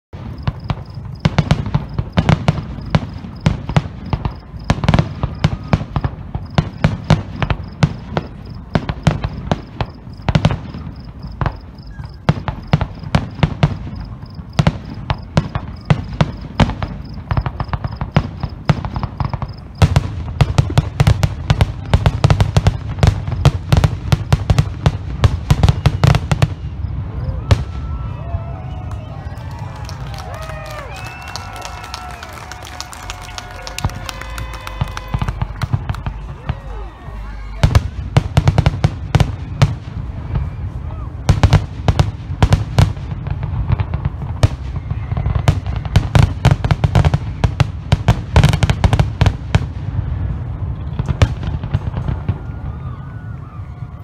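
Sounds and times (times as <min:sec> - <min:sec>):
fireworks bangs and crackles: 0:00.1 - 0:54.0.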